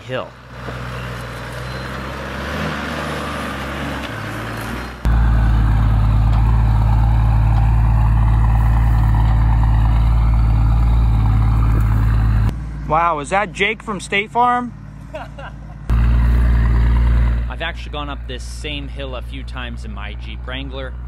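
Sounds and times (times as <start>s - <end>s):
diesel engine pulling uphill: 0.0s - 21.0s.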